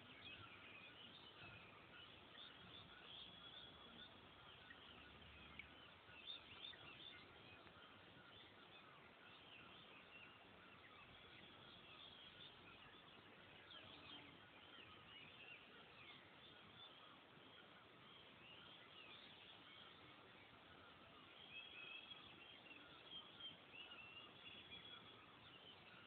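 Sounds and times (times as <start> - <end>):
background hiss: 0.0 - 26.0
small birds chirping: 0.0 - 26.0.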